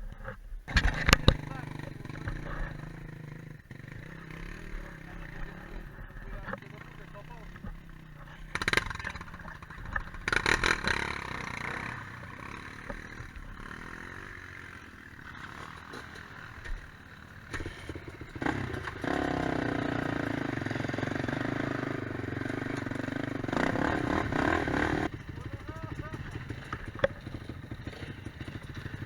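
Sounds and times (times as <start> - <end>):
quad bike engine revving: 0.7 - 29.0.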